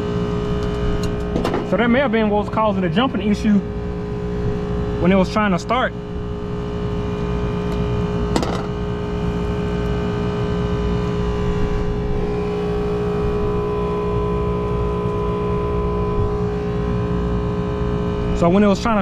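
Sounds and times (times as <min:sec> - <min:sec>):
air conditioning units droning: 0:00.0 - 0:19.0.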